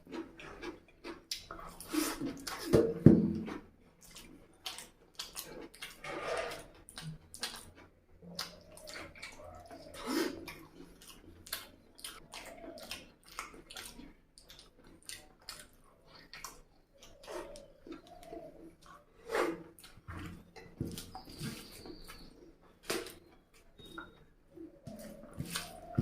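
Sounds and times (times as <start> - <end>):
wet chewing and lip smacking: 0.0 - 26.0.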